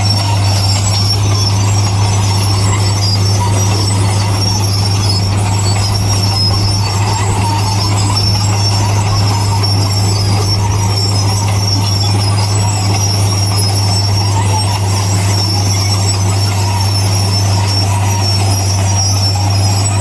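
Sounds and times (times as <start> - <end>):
deep diesel engine: 0.0 - 20.0
high-pitched squeal: 0.0 - 20.0.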